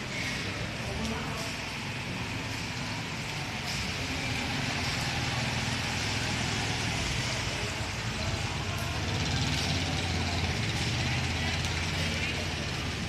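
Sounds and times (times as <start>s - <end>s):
vehicle engine running: 2.5s - 13.0s.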